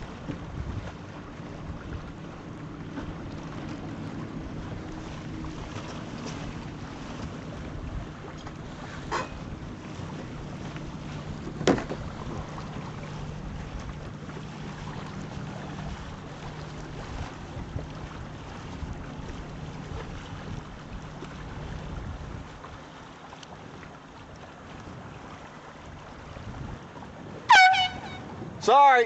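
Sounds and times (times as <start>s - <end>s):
wind on microphone: 0.0s - 22.9s, 23.6s - 28.7s
water moving along boat hull: 0.0s - 29.0s.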